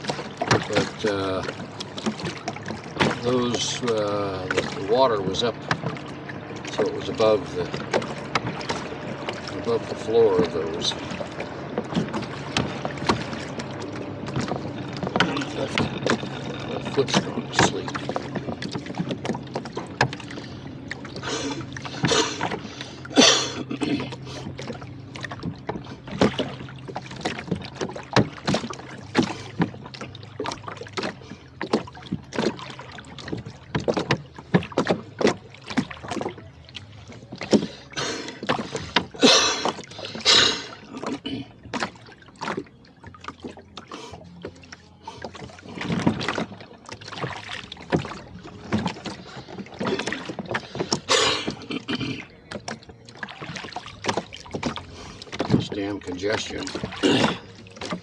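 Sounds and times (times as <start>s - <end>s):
oar swishes: 0.0s - 58.0s
rowboat knocks and clicks: 0.0s - 58.0s.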